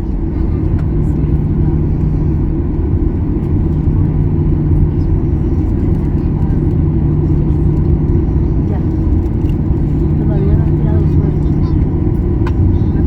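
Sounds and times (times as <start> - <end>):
airplane cabin engine rumble: 0.0 - 13.0
constant hum: 0.0 - 13.0.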